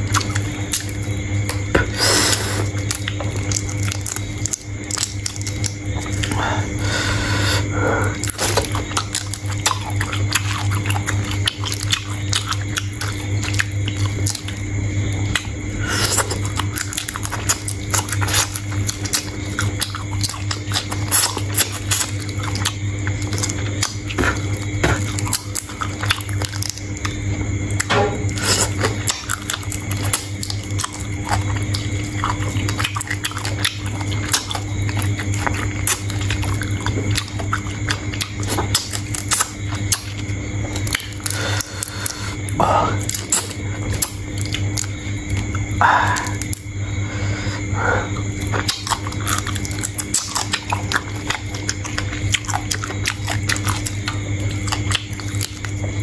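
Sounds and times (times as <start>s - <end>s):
shrimp chewing crunches: 0.0s - 6.5s, 8.1s - 46.8s, 48.2s - 56.0s
low steady hum: 0.0s - 56.0s.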